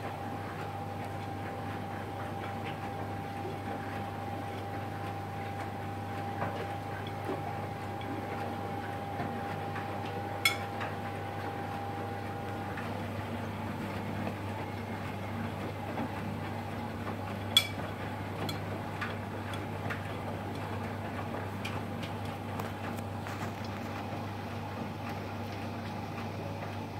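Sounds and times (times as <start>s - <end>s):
tumble dryer humming: 0.0s - 26.9s.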